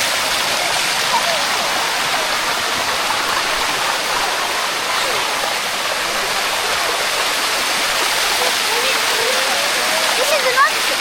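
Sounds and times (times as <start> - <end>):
water cascading over waterfall steps: 0.0 - 11.0.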